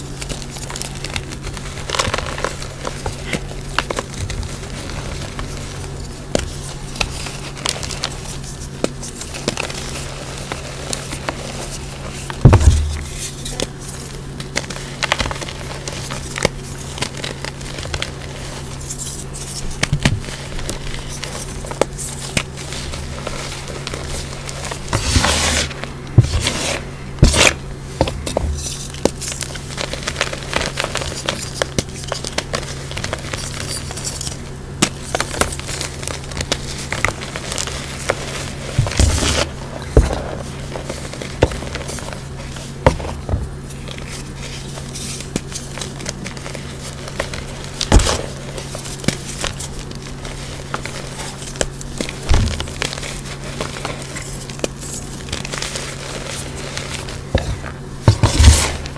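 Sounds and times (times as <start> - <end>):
chalk crunching by hand: 0.0 - 58.9
low hum: 0.0 - 58.9.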